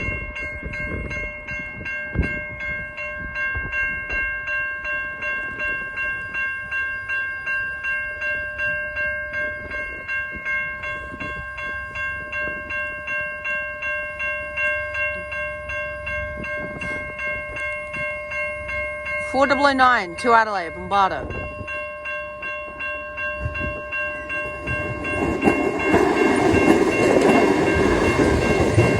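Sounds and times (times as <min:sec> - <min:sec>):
level crossing bell ringing: 0:00.0 - 0:28.9
train rumbling: 0:00.0 - 0:28.9.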